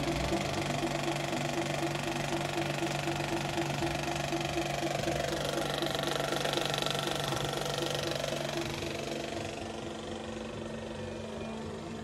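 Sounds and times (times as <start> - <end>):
film projector clattering: 0.0 - 11.4.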